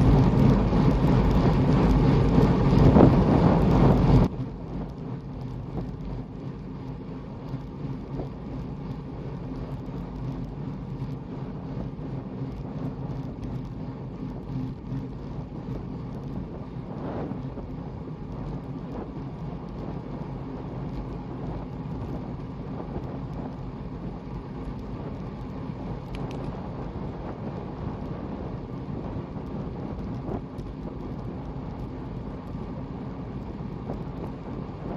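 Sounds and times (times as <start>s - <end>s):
motor vehicle rumbling: 0.0s - 34.9s
wind noise on microphone: 0.0s - 34.9s.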